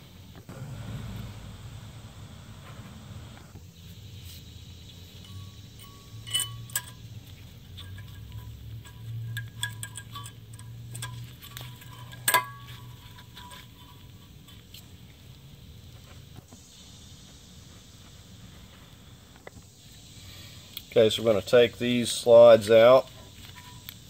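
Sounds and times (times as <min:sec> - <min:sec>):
low steady hum: 0:00.0 - 0:22.4.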